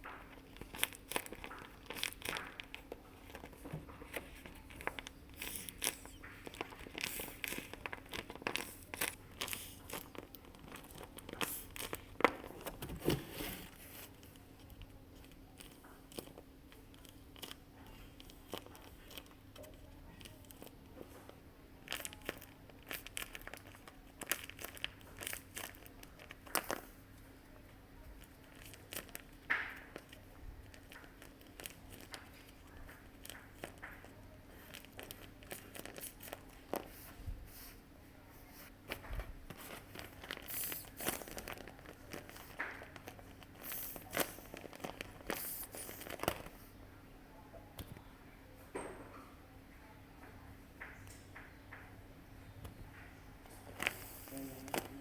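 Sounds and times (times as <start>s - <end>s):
paper and tape crinkling: 0.0s - 46.8s, 52.9s - 55.0s.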